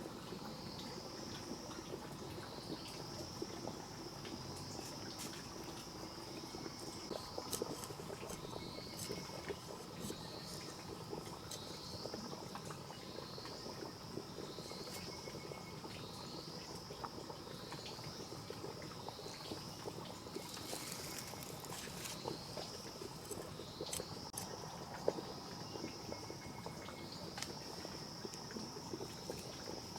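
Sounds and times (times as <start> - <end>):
insects droning: 0.0 - 29.9.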